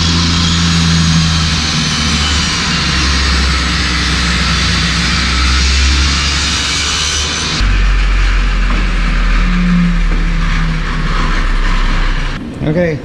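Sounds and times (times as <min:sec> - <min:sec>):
table saw motor hum and blade whine: 0:00.0 - 0:12.4.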